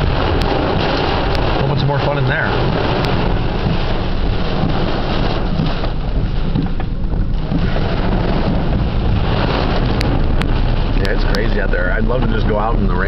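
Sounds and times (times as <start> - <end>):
deep low rumble: 0.0 - 13.0
heavy rain on car roof: 0.0 - 13.0.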